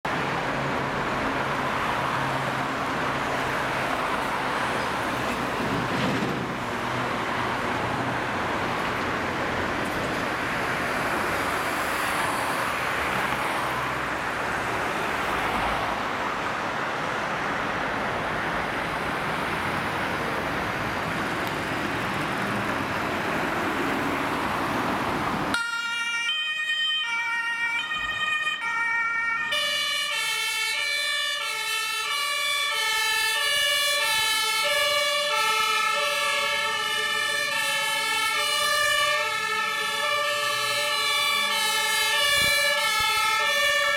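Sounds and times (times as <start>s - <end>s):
street traffic noise: 0.0s - 43.9s
two-tone fire engine sirens: 0.1s - 5.9s, 6.5s - 20.8s, 25.5s - 43.9s.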